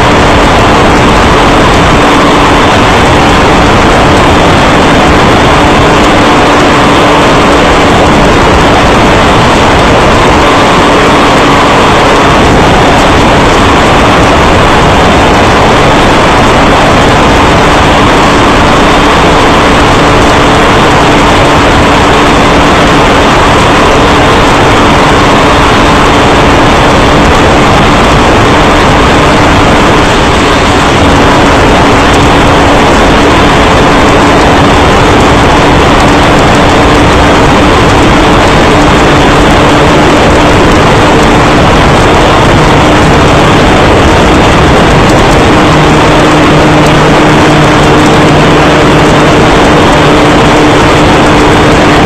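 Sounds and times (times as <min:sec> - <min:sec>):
faint steady drone: 0:00.0 - 0:52.0
vehicle engine at high speed: 0:00.0 - 0:52.0.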